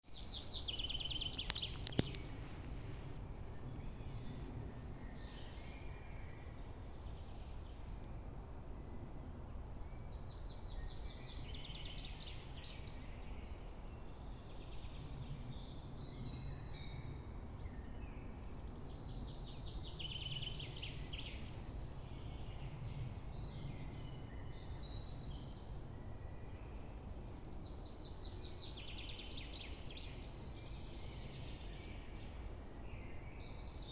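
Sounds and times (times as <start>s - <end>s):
songbirds singing: 0.0s - 8.2s, 9.5s - 33.9s.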